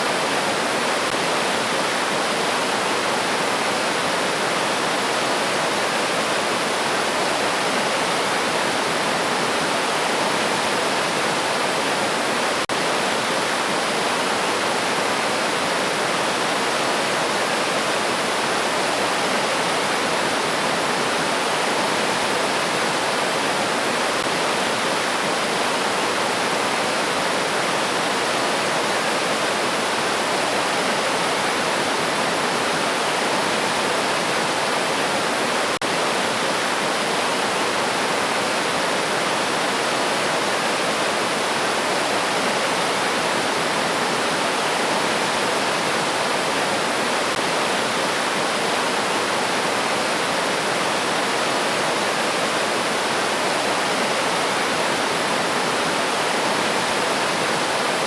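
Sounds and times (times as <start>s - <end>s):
river stream rushing: 0.0s - 58.0s.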